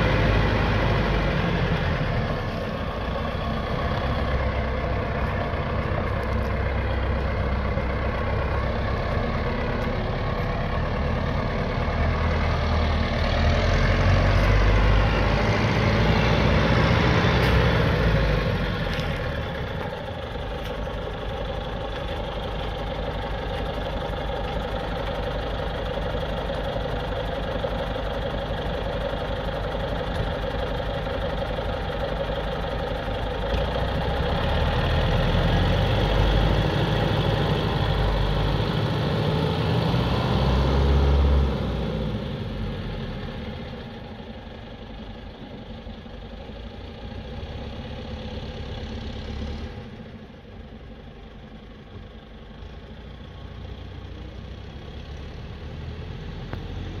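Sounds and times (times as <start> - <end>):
bus diesel engine idling and revving: 0.0 - 57.0.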